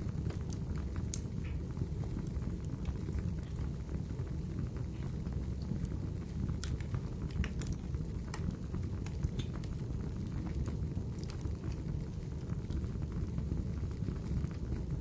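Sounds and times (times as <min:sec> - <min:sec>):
rain: 0:00.0 - 0:15.0
sharp pops of fire: 0:00.0 - 0:15.0
wood fire crackling: 0:00.0 - 0:15.0.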